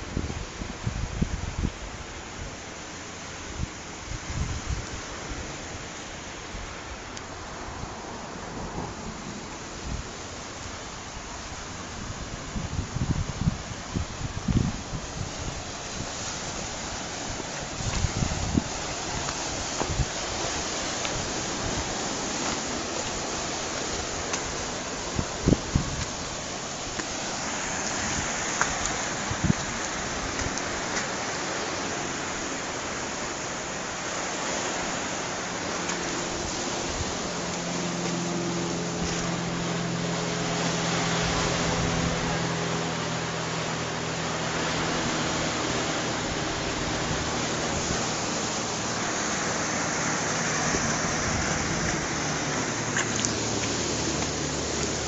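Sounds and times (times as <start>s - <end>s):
ocean surf on rocks: 0.0s - 55.0s.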